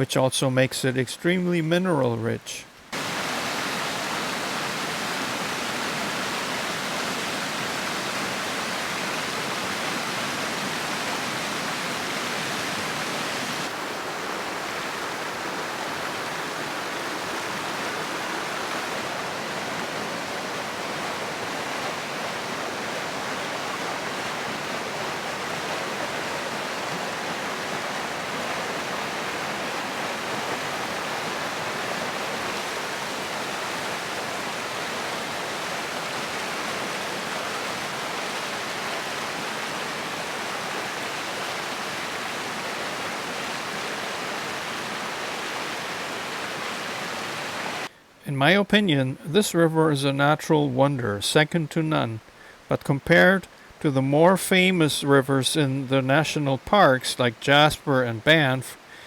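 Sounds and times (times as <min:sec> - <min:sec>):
river water rushing: 0:02.8 - 0:48.1, 0:54.6 - 0:59.0.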